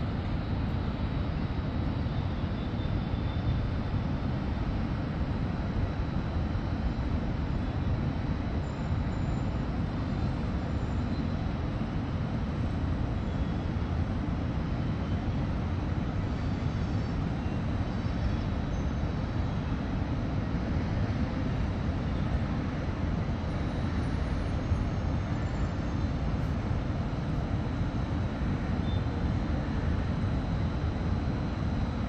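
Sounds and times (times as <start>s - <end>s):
low city rumble: 0.0s - 32.0s.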